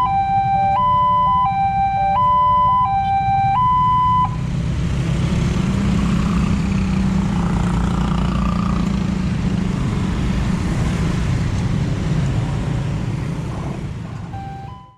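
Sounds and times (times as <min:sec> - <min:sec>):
road vehicles rumbling: 0:00.0 - 0:14.9.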